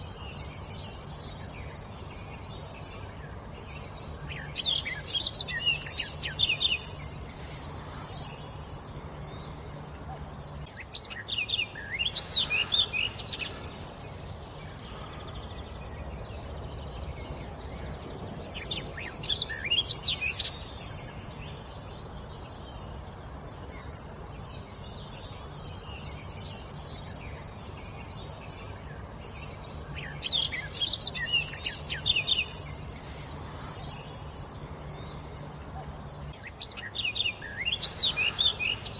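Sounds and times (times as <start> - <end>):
faint low hum: 0.0 - 38.9
songbird chirping: 0.0 - 38.9.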